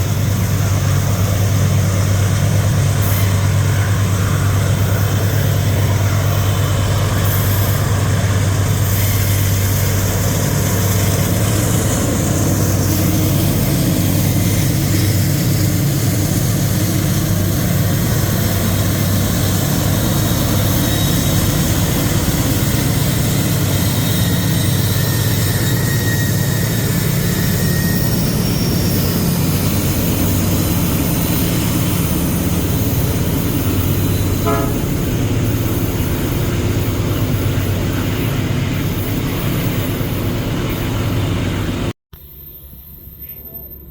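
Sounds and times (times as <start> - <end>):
diesel locomotive engine droning: 0.0 - 43.9.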